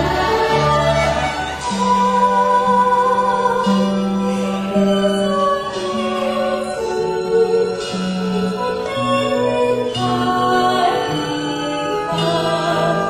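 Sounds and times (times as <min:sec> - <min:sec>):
pit orchestra playing: 0:00.0 - 0:13.0
woman singing: 0:00.0 - 0:13.0.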